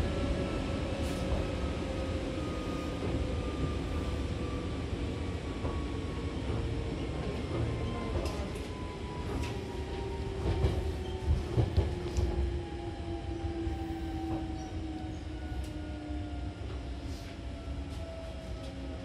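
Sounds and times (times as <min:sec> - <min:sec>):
train wheel rumble: 0:00.0 - 0:19.0.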